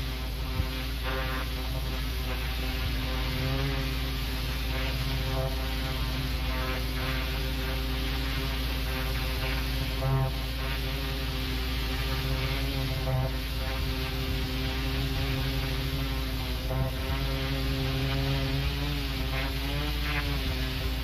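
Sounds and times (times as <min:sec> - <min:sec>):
high-pressure water jet hissing: 0:00.0 - 0:21.0
pressure washer running: 0:00.0 - 0:21.0.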